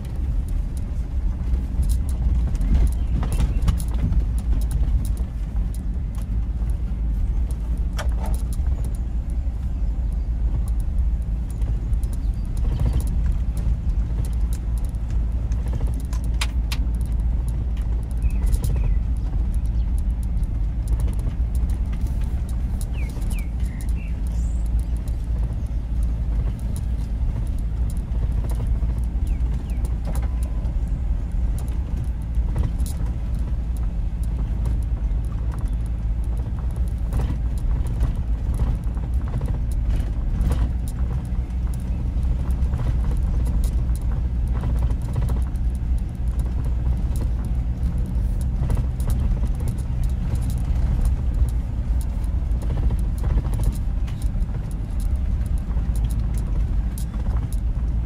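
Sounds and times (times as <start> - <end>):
car engine and road rumble: 0.0 - 58.0
small rattles and clicks: 0.0 - 58.0.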